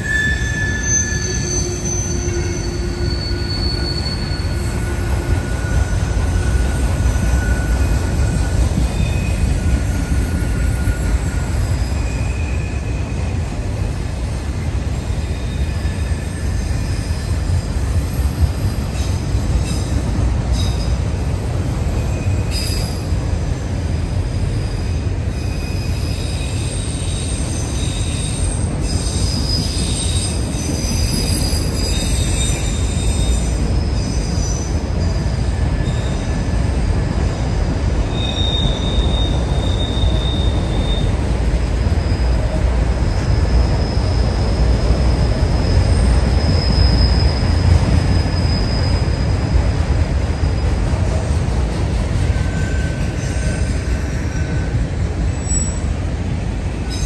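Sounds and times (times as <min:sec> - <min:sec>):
wheel flange squeals: 0:00.0 - 0:21.0, 0:21.8 - 0:23.2, 0:23.9 - 0:56.0
train cars rumbling on rails: 0:00.0 - 0:57.0.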